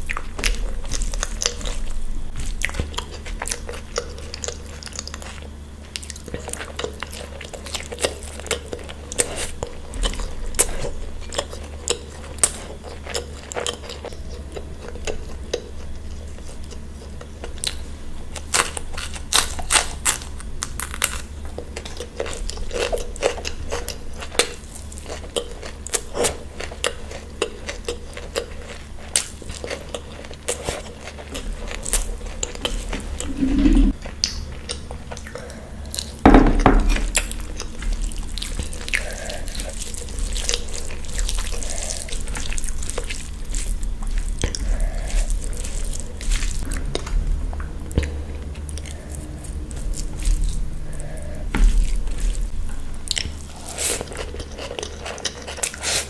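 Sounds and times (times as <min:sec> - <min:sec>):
food crunching: 0:00.0 - 0:56.0
person chewing food: 0:00.0 - 0:56.0.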